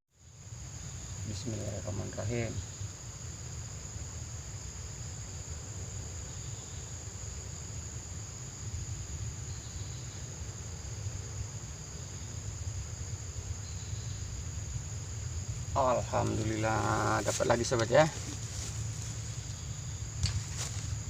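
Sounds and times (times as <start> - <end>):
insects trilling: 0.1 - 21.0
low steady rumble: 0.4 - 21.0.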